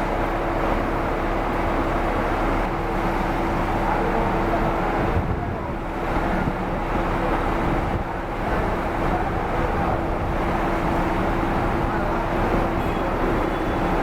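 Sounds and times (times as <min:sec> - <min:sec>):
coach engine and road noise: 0:00.0 - 0:14.0.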